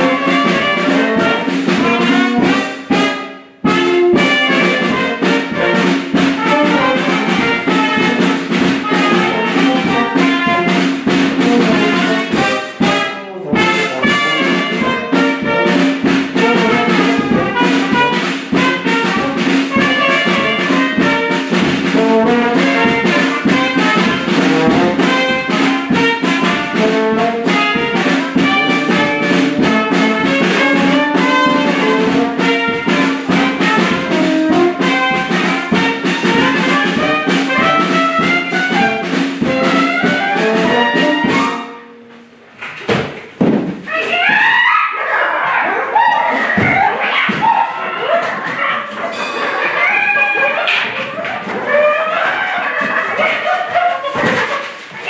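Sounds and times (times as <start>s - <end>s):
brass band playing: 0.0s - 42.6s, 43.6s - 55.0s.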